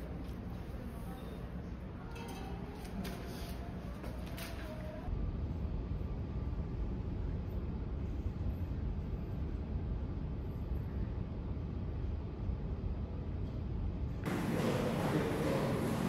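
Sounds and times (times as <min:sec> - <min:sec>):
low rumble of hall background: 0:00.0 - 0:16.0.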